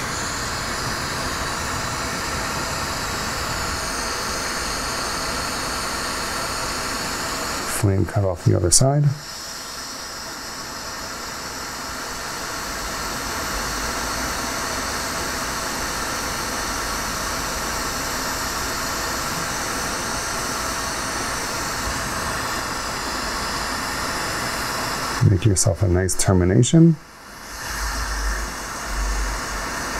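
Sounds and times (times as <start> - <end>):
torch flame hissing: 0.0 - 29.9.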